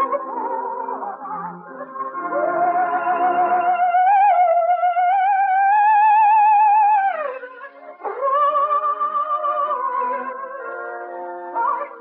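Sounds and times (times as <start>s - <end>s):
operatic soprano singing: 0.0s - 12.0s.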